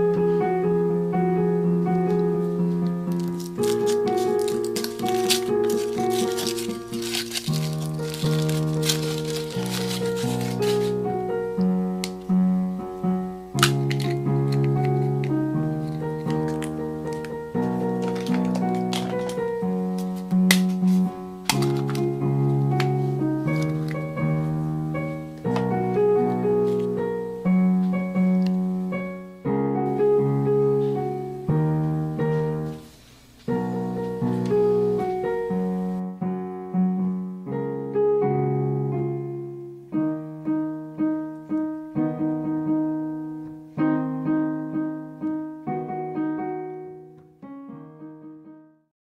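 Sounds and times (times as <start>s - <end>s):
piano tune: 0.0s - 48.9s.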